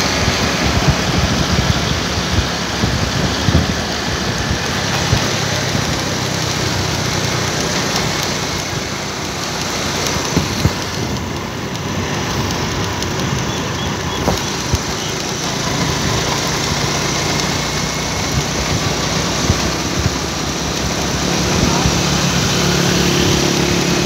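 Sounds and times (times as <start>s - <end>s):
road and wind noise: 0.0s - 24.0s
vehicle engine running: 0.0s - 24.0s.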